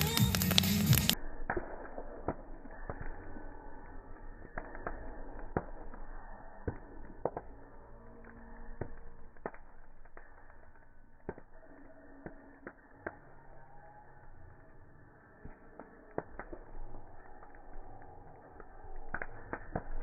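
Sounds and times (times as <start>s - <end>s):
wood crackling and popping: 0.0s - 13.5s, 15.2s - 20.0s
low noise of flames: 0.0s - 20.0s.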